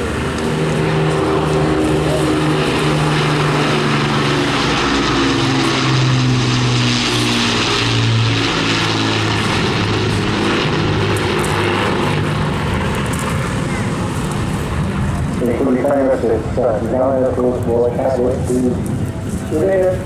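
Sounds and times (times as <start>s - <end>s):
propeller aircraft engines droning: 0.0s - 20.0s.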